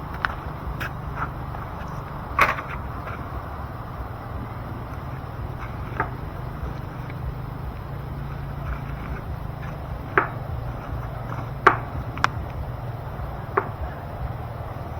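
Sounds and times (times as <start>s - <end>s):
fire popping: 0.0s - 14.9s
low rumble: 0.0s - 14.9s
wood fire crackling: 0.0s - 14.9s.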